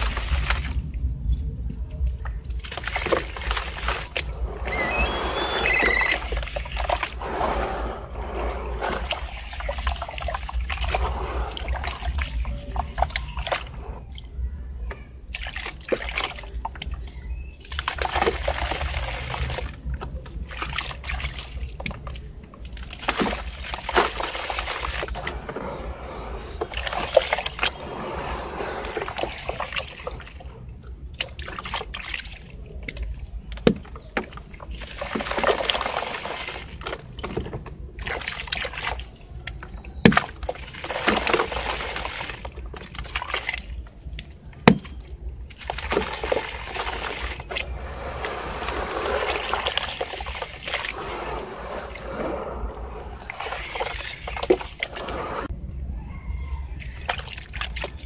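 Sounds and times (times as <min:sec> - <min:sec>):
gritty water splashing: 0:00.0 - 0:14.4, 0:15.0 - 0:55.5, 0:56.8 - 0:58.0
hands sloshing water in basin: 0:00.0 - 0:14.4, 0:15.1 - 0:55.5, 0:56.5 - 0:58.0.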